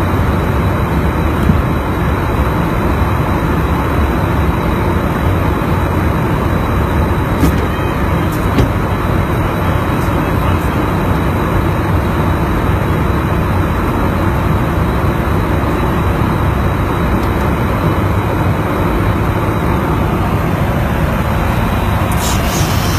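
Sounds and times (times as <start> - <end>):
aircraft roar in flight: 0.0 - 22.9.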